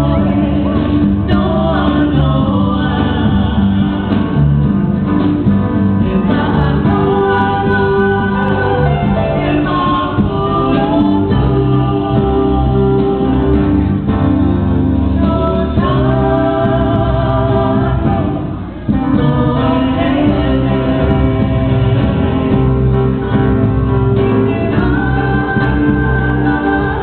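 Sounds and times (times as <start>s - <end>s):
group singing dance song: 0.0s - 27.0s
low accompaniment: 0.0s - 27.0s.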